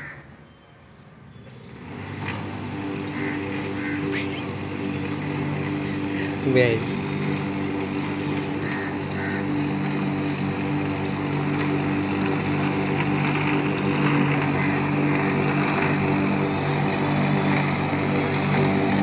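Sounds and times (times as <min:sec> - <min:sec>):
electric lawn mower humming: 0:01.5 - 0:19.0.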